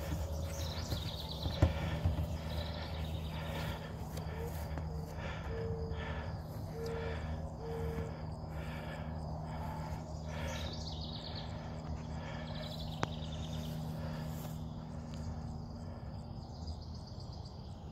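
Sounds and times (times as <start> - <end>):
insects: 0.0 - 17.9
low hum: 0.0 - 17.9.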